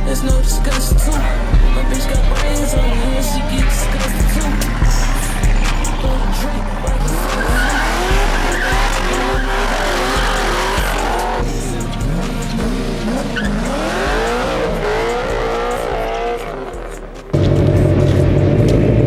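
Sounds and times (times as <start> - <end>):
car engine revving: 0.0 - 19.0
rap music: 0.0 - 19.0
tires squealing: 0.0 - 19.0.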